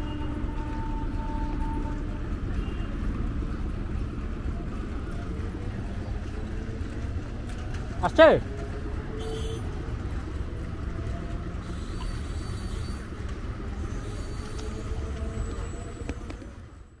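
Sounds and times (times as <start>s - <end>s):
distant train rumble: 0.0s - 17.0s
faint train whine: 0.0s - 17.0s.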